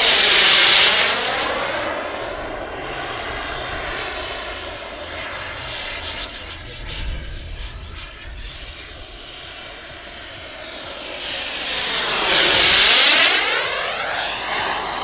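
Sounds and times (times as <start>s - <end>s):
model jet turbine rushing: 0.0s - 15.0s.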